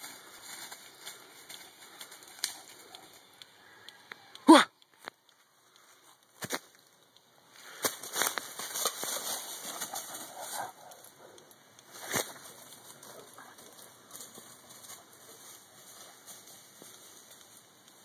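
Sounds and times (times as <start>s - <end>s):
rustling dry leaves and brush: 0.0s - 4.3s, 4.9s - 18.0s.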